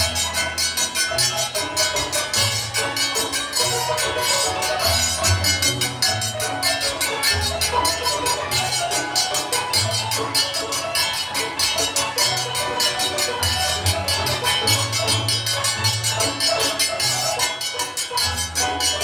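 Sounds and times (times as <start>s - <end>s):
barrel organ playing: 0.0s - 19.0s
quick percussion beat: 0.0s - 19.0s.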